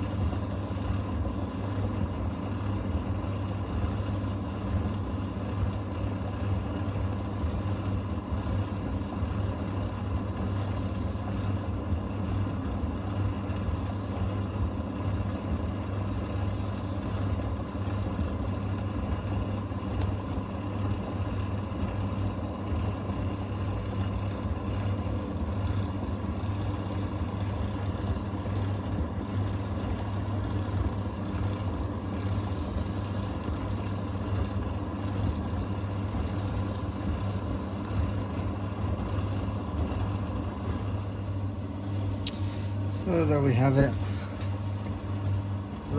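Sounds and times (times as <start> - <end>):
faint steady whine: 0.0 - 45.9
tumble dryer motor hum: 0.0 - 45.9.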